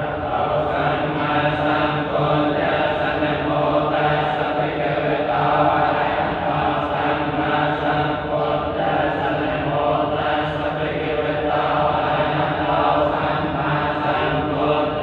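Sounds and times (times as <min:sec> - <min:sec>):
voices chanting in unison: 0:00.0 - 0:15.0.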